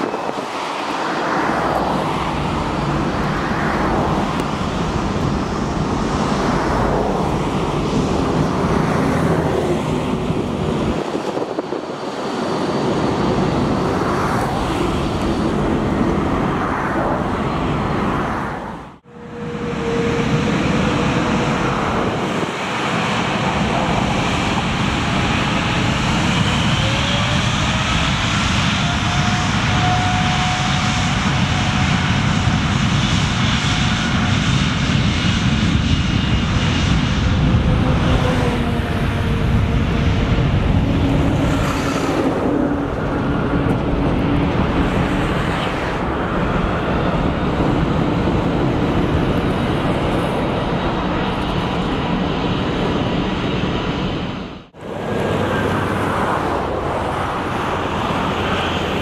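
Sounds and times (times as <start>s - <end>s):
faint engine whine: 0.0s - 59.0s
jet engines running: 0.0s - 59.0s.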